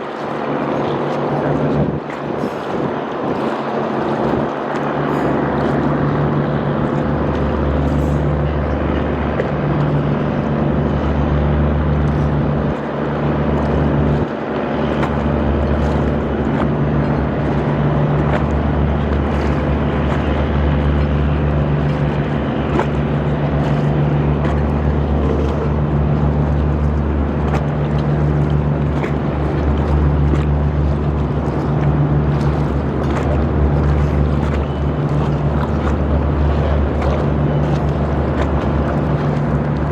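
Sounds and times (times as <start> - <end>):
boat engine drone: 0.0 - 39.9
rushing water: 0.0 - 39.9
wind: 0.0 - 39.9.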